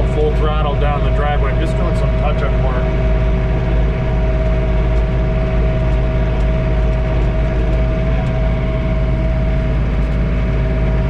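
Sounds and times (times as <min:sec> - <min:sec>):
high whine: 0:00.0 - 0:11.0
tractor diesel engine drone: 0:00.0 - 0:11.0.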